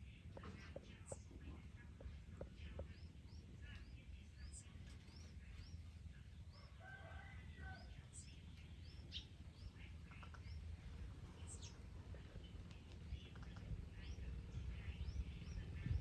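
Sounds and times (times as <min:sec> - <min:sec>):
low steady rumble: 0:00.0 - 0:16.0
birds chirping: 0:00.4 - 0:16.0.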